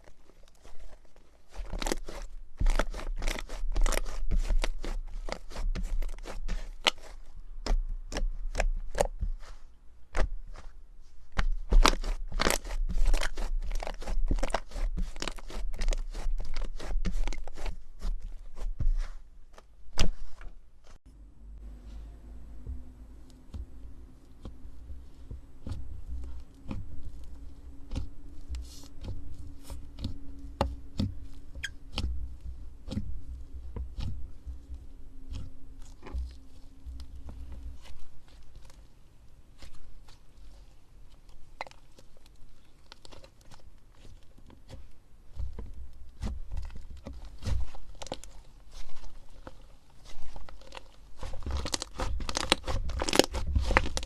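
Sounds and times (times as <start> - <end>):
slime clicking and crackling: 0.0 - 10.7, 11.3 - 20.3, 22.6 - 54.0.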